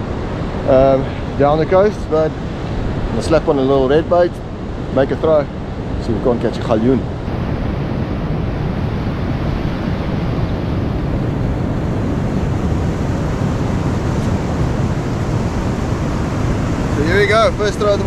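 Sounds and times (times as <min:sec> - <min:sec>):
ocean surf washing ashore: 0:00.0 - 0:18.0
wind rumbling on microphone: 0:00.0 - 0:18.0.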